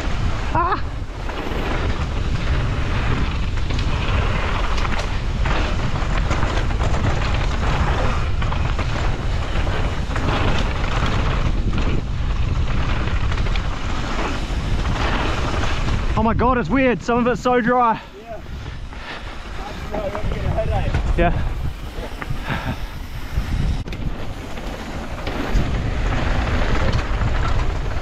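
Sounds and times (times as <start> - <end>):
bike knocking and rattling: 0.0 - 28.0
bike tyres rolling on dirt: 0.0 - 28.0
wind rushing over microphone: 0.0 - 28.0.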